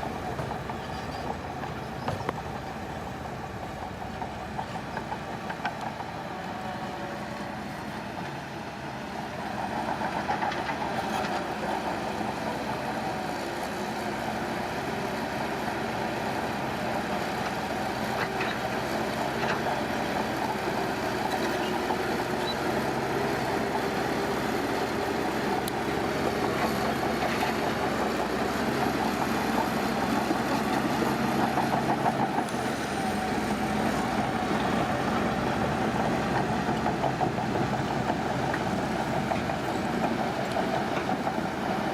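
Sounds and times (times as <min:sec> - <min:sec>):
heavy machinery engine running: 0:00.0 - 0:41.9.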